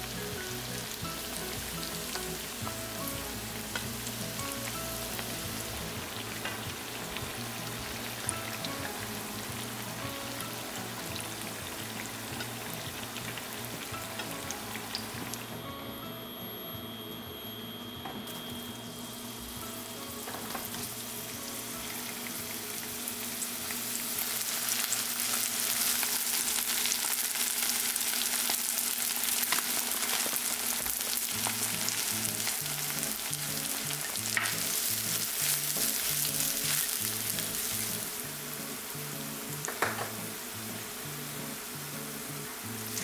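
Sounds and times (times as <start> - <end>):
food sizzling in hot oil: 0.0 - 16.0, 18.3 - 43.0.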